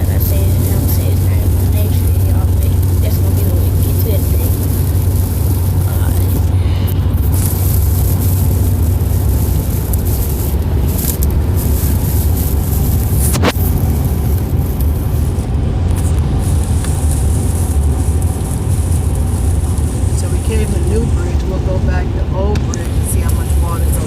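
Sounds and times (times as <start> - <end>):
steady hiss: 0.0 - 21.3
car driving on wet road: 0.0 - 24.0.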